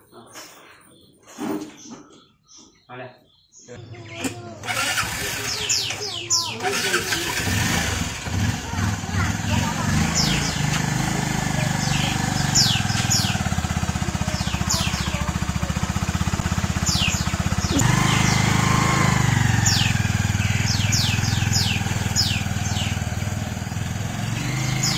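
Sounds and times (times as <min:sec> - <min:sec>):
birds chirping: 0:00.0 - 0:24.9
small engine puttering: 0:04.0 - 0:24.9.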